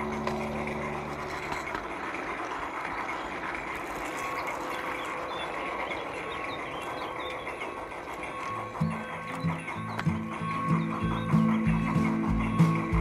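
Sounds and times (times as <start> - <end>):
model train wheels rattling: 0.0 - 13.0.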